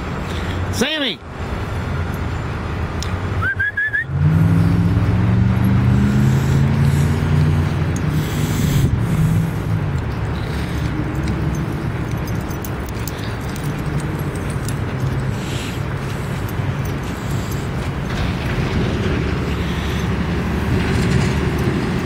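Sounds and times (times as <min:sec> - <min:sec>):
heavy vehicle engine passing: 0:00.0 - 0:22.0
traffic noise: 0:00.0 - 0:22.0.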